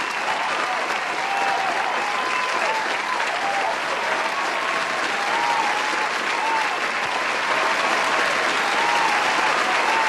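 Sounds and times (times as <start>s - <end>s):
crowd applauding: 0.0s - 10.0s
crowd cheering: 0.0s - 10.0s.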